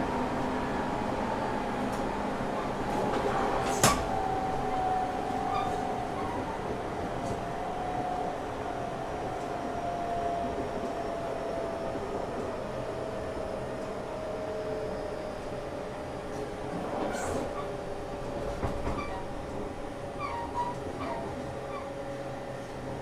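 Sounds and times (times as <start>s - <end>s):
wheels rumbling on rail: 0.0s - 23.0s.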